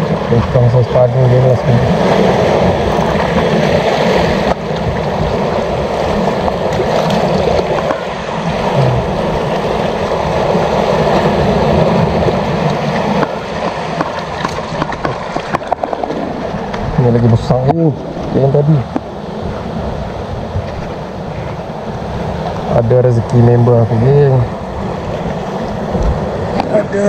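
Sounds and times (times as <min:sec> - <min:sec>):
sea waves: 0:00.0 - 0:27.0
wind: 0:00.0 - 0:27.0.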